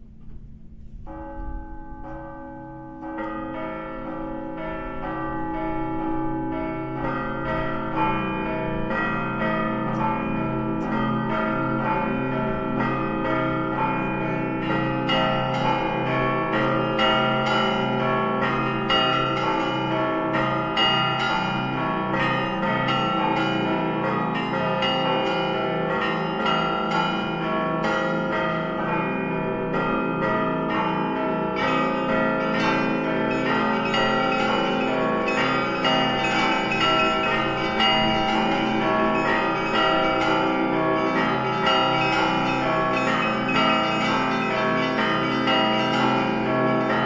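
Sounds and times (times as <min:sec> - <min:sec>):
church bells pealing: 0:01.0 - 0:47.0.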